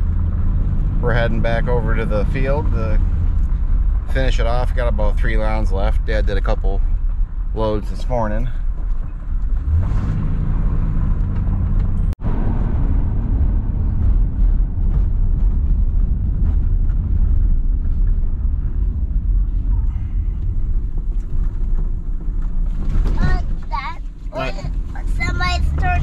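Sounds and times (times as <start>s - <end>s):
truck engine and tyres rumbling: 0.0s - 26.0s.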